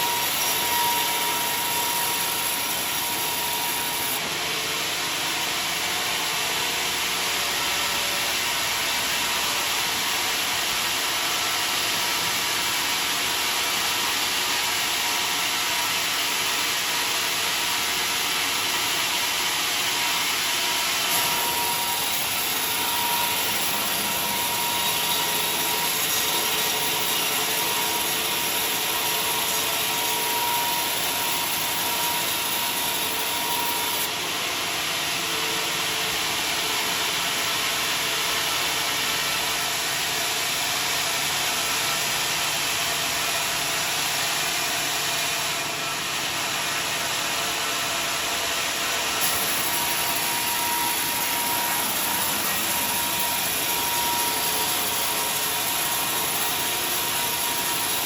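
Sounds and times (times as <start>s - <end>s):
whining blade cutting log: 0.0s - 13.0s, 14.0s - 39.0s, 42.1s - 58.0s
sawmill saw running: 0.0s - 58.0s.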